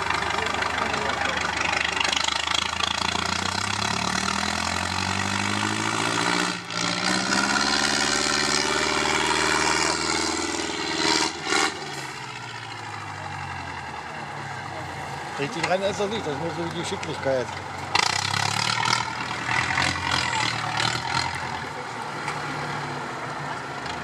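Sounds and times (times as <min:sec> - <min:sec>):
truck diesel engine revving: 0:00.0 - 0:24.0.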